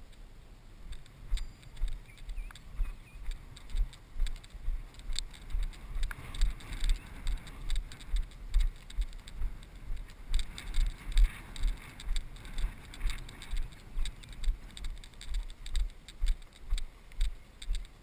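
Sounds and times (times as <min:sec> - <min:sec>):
footsteps through tall grass: 0:00.8 - 0:18.0.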